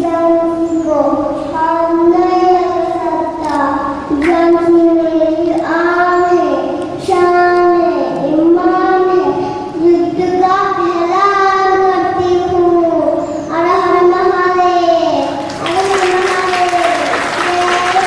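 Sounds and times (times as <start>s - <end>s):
girl singing into a microphone: 0.0s - 18.0s.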